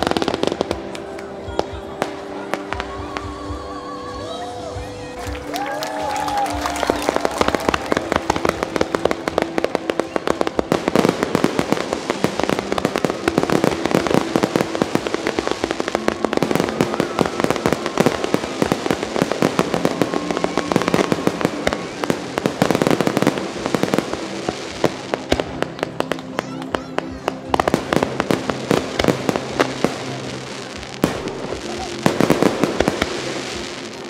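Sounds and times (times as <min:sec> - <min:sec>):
fireworks bursting and crackling: 0:00.0 - 0:03.8, 0:05.3 - 0:34.0.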